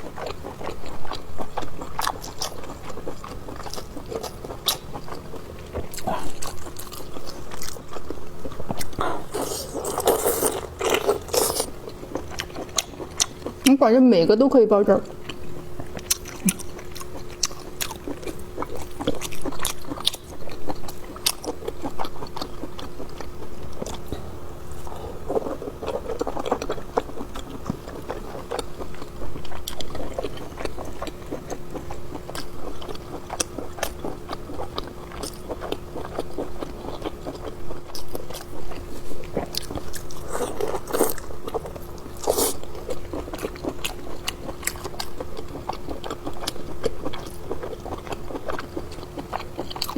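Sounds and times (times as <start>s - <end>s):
close chewing and mouth clicks: 0.0s - 13.8s, 15.0s - 49.9s.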